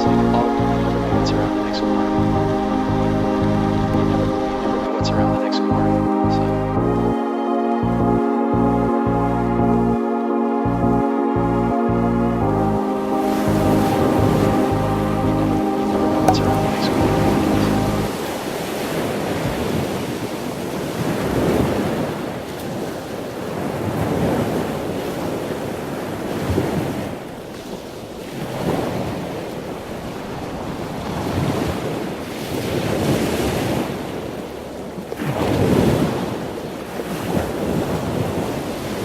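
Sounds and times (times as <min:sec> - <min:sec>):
wind on microphone: 0:00.0 - 0:07.2, 0:10.7 - 0:39.0
waves breaking: 0:00.0 - 0:07.6, 0:12.8 - 0:39.0.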